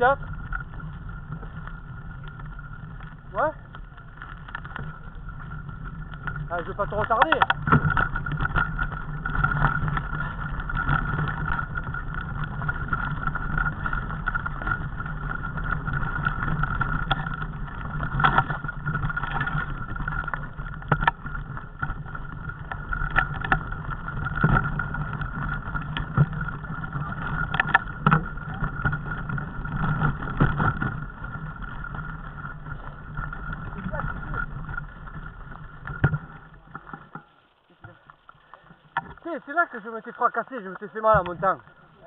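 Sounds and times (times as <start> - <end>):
bike knocking and rattling: 0.0 - 42.0
bike tyres rumbling: 0.0 - 42.0.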